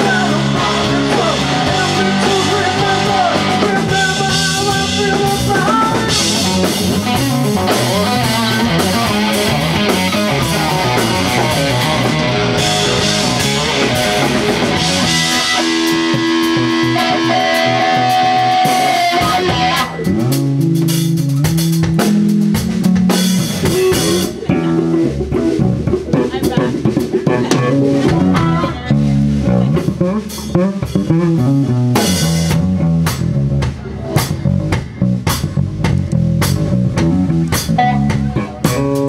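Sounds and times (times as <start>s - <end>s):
bass guitar: 0.0s - 39.0s
drum kit: 0.0s - 39.0s
electric guitar: 0.0s - 39.0s.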